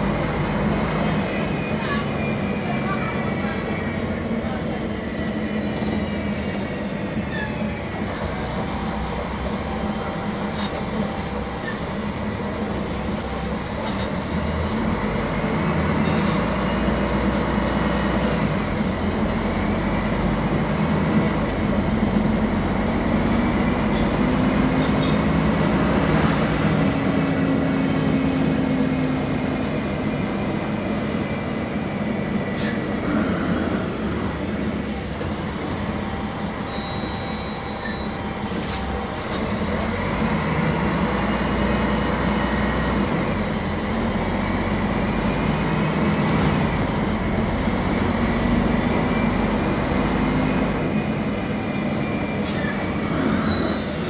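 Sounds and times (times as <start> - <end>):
bus diesel engine pulling: 0.0 - 54.0.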